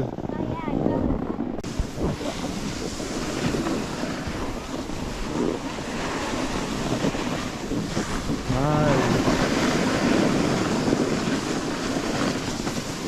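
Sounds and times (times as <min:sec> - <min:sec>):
snowboards scraping over snow: 0:00.0 - 0:13.0
wind on microphone: 0:00.0 - 0:13.0.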